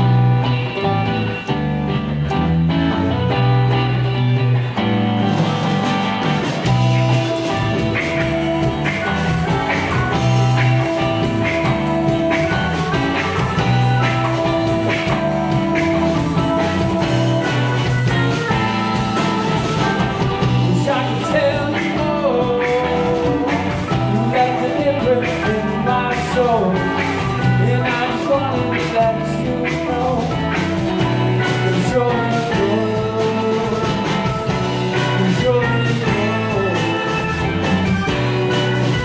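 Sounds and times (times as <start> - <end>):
drum kit: 0.0 - 39.0
electric bass: 0.0 - 39.0
electric guitars: 0.0 - 39.0
keyboard: 0.0 - 39.0.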